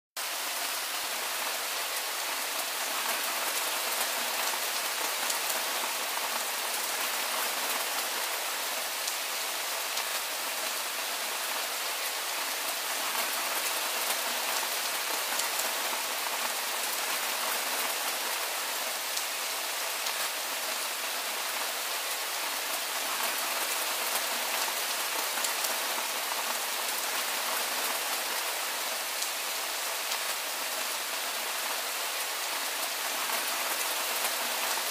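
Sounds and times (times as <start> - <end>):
soft steady rain: 0.2 - 34.9.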